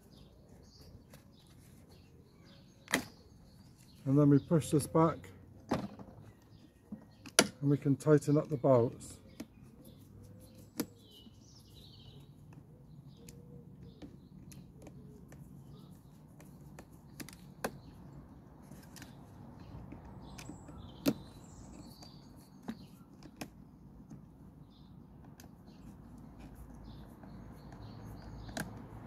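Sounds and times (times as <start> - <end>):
faint birdsong: 0.0 - 29.0.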